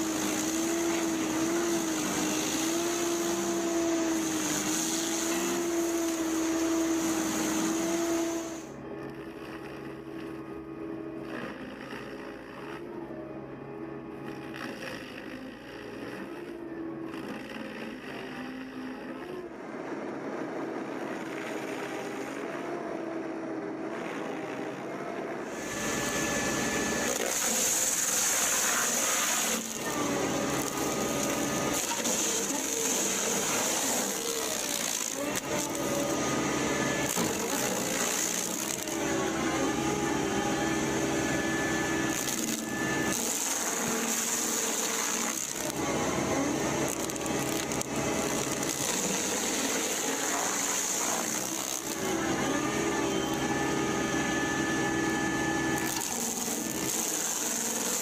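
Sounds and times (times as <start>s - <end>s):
wood-processing machinery cutting timber: 0.0s - 58.0s.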